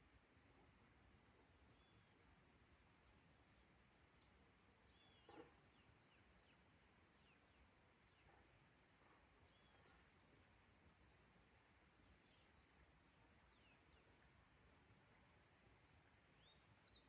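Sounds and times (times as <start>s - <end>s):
insects chirring: 0.0s - 17.0s
faint bird chirps: 1.3s - 2.4s, 3.0s - 17.0s.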